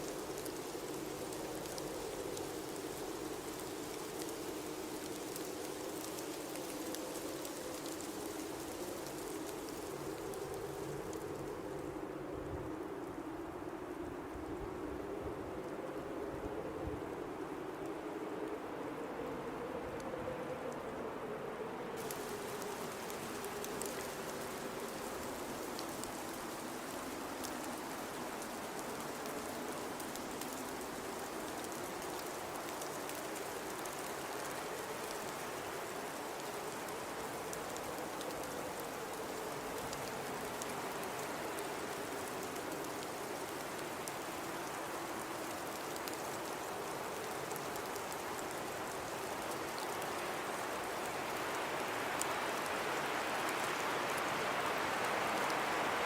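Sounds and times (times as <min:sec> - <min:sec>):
blizzard wind blowing: 0:00.0 - 0:56.0.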